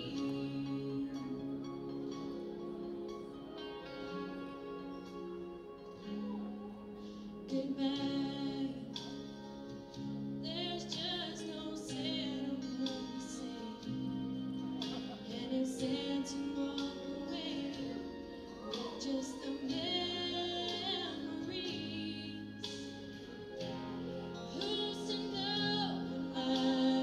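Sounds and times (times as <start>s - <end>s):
woman singing into microphone: 0.0s - 3.7s, 6.0s - 9.4s, 10.4s - 27.0s
instrumental accompaniment: 0.0s - 27.0s.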